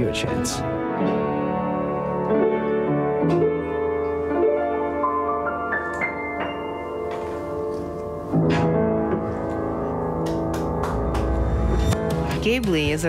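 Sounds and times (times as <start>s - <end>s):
upright piano playing: 0.0s - 13.0s.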